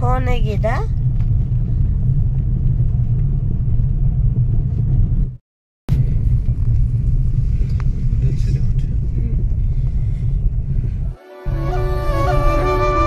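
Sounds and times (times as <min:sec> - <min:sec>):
car driving on dirt road: 0:00.0 - 0:11.2.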